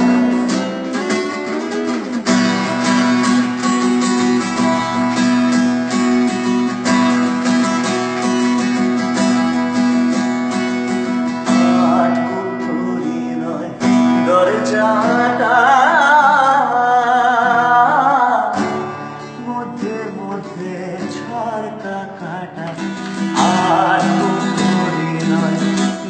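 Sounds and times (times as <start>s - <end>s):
folk-rock strummed acoustic guitar: 0.0s - 26.0s.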